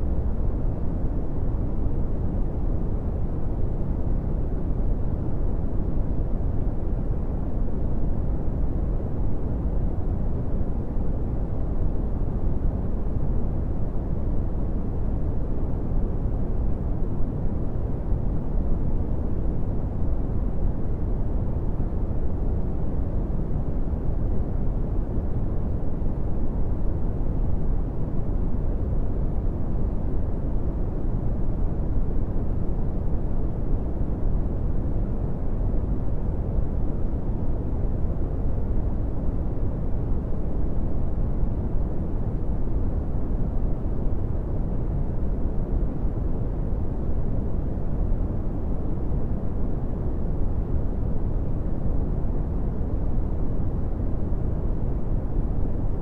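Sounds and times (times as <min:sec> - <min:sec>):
brown noise rumbling hiss: 0:00.0 - 0:56.0.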